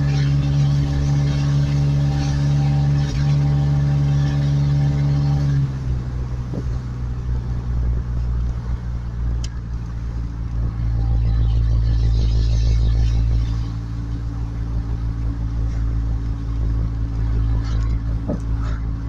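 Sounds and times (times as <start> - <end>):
pickup engine running: 0.0 - 19.0.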